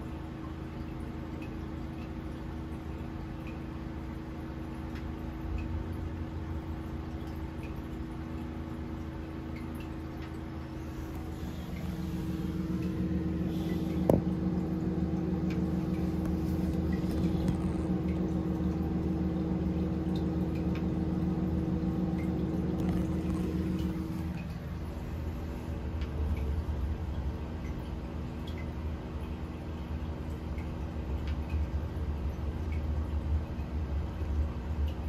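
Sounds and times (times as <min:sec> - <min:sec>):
steady hum: 0:00.0 - 0:35.0
water flowing and trickling: 0:00.0 - 0:35.0.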